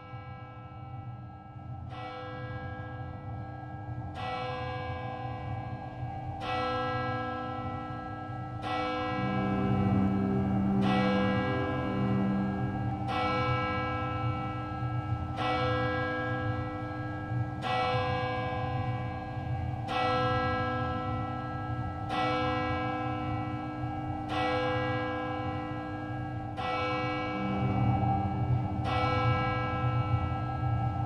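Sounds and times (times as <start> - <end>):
bell tolling slowly: 0.0 - 31.0.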